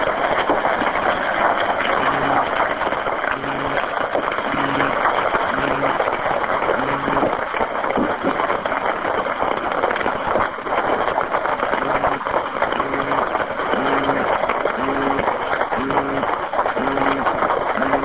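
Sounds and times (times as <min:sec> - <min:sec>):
pulsing low buzzing tone: 0:00.0 - 0:08.8, 0:11.7 - 0:18.0
telephone line hiss and crackle: 0:00.0 - 0:18.0.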